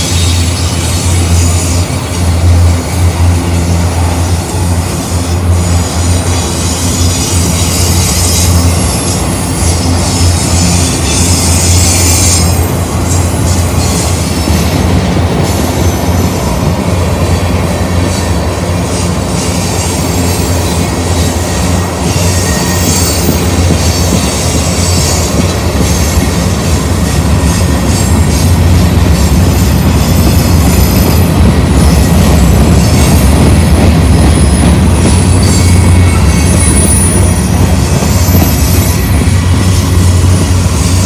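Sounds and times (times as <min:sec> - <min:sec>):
high wheel squeal: 0:00.0 - 0:16.5, 0:18.0 - 0:41.0
steel wheels rumbling on rail: 0:00.0 - 0:41.0.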